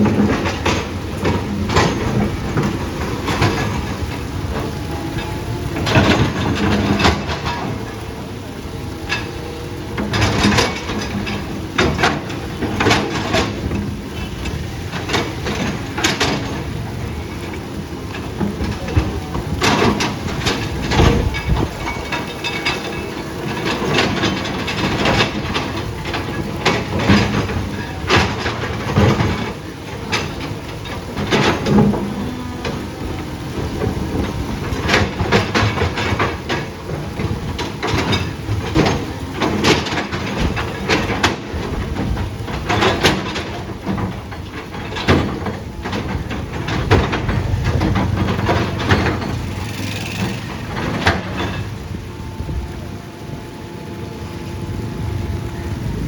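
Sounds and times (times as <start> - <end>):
tracked machine engine rumble: 0.0 - 56.0.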